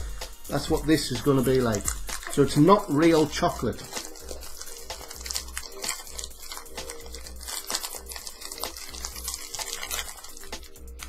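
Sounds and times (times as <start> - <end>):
wrapper crinkling as torn open: 1.5 - 11.0.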